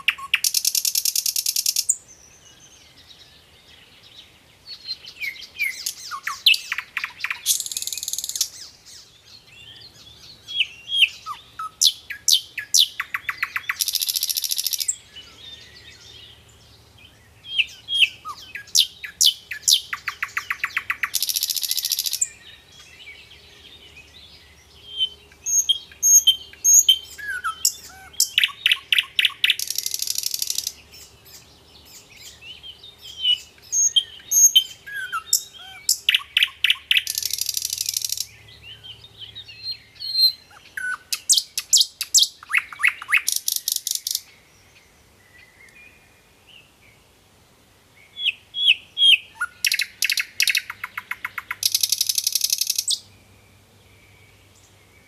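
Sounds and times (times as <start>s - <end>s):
nightingale singing: 0.0s - 47.1s, 47.9s - 55.0s.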